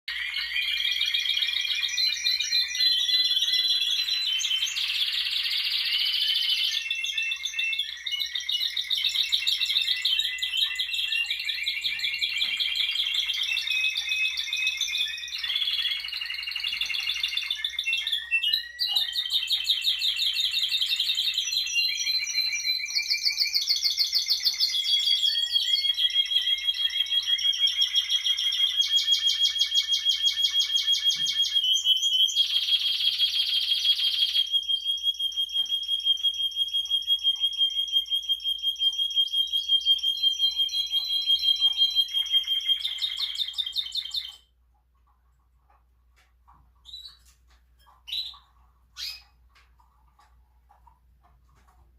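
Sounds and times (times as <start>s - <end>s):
canary singing trills: 0.1s - 51.9s.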